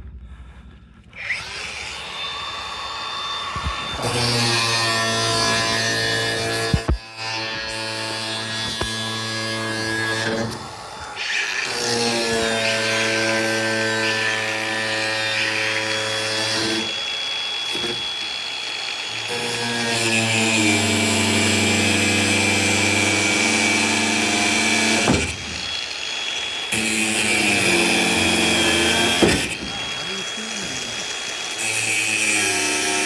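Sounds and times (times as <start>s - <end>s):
hissing cutting noise: 0.1s - 33.0s
power tool motor whining: 1.0s - 33.0s.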